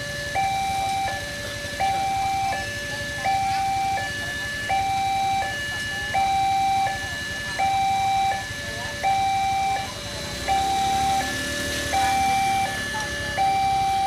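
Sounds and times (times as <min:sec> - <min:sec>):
level crossing two-tone alarm: 0:00.0 - 0:14.0.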